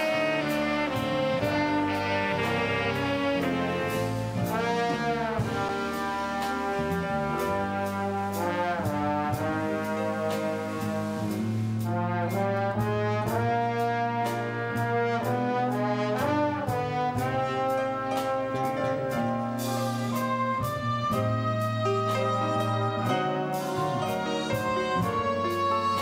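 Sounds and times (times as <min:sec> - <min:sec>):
brass section chords: 0:00.0 - 0:26.0.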